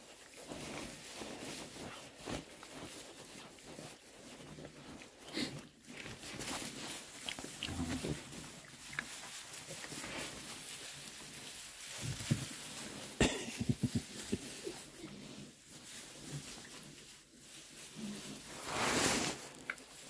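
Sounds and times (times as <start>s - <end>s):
straw rustling: 0.0s - 20.0s.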